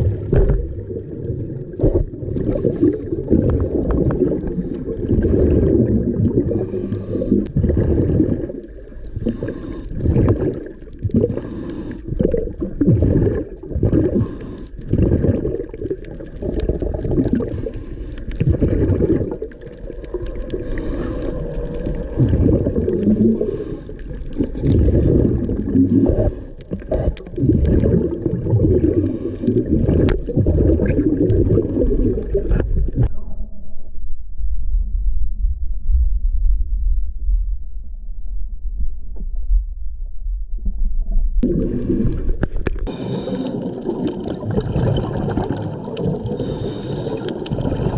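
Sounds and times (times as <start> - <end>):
diver bubbles gurgling underwater: 0.0 - 33.4, 41.4 - 47.9.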